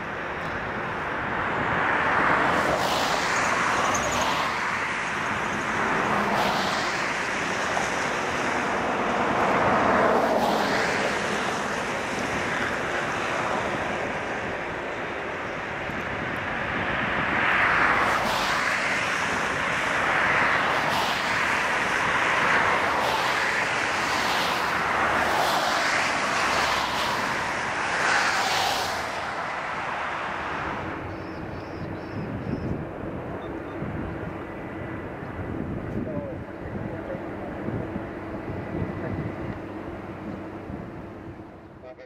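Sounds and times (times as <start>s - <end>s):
distant jet engines roaring: 0.0s - 42.0s.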